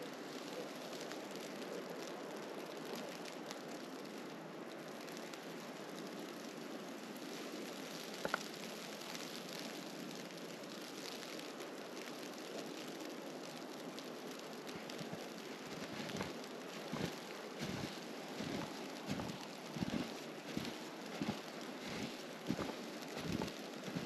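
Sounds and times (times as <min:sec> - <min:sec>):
snowstorm wind and snow hissing: 0:00.0 - 0:24.0.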